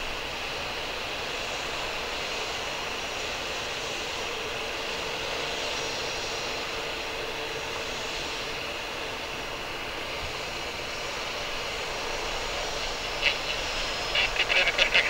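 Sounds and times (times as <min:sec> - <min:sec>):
distant jet engines running: 0:00.0 - 0:15.0.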